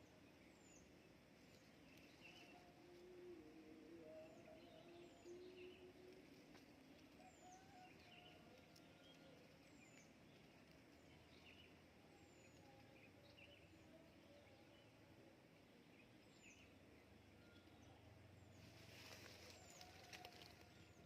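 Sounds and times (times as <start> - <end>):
birds chirping: 0.0 - 21.0
soft outdoor hiss: 0.0 - 21.0.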